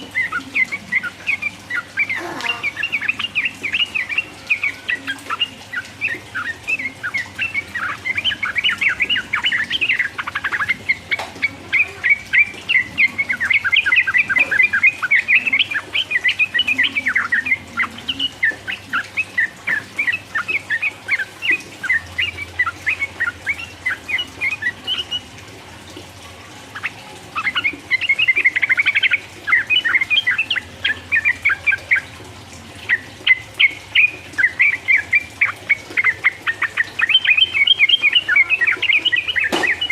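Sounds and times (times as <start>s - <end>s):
bird chattering song: 0.0s - 25.3s, 26.7s - 39.9s.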